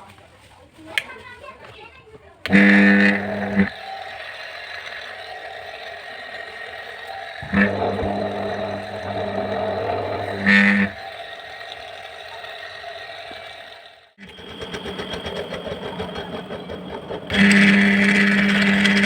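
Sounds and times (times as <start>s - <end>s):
electric motor whirring: 2.5s - 19.0s
low electrical hum: 2.5s - 19.0s.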